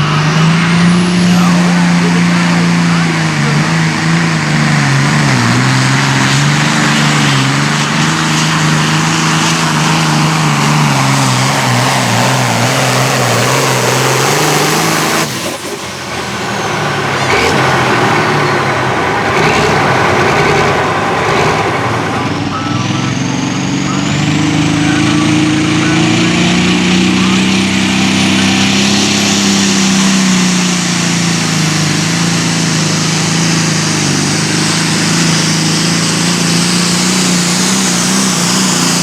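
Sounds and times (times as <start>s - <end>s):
diesel engine at full throttle: 0.0s - 39.0s
faint whines: 6.0s - 39.0s.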